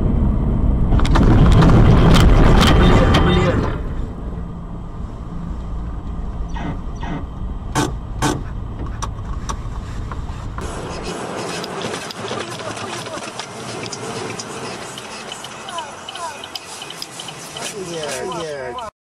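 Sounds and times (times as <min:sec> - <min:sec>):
car driving on road: 0:00.0 - 0:18.9.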